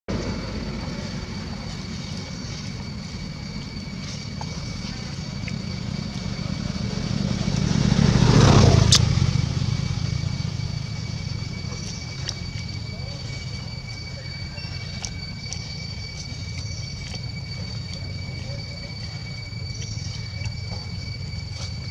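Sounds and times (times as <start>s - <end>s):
vehicle engine passing by: 0.1s - 21.9s.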